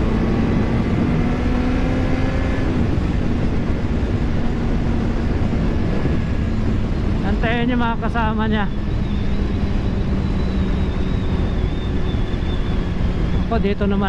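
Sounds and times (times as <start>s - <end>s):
motorcycle engine cruising: 0.0s - 14.0s
wind rush on microphone: 0.0s - 14.0s.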